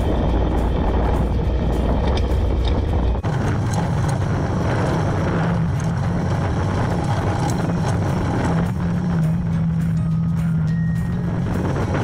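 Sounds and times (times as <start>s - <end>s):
quad bike engine running: 0.0s - 12.0s
rough road noise: 0.0s - 12.0s.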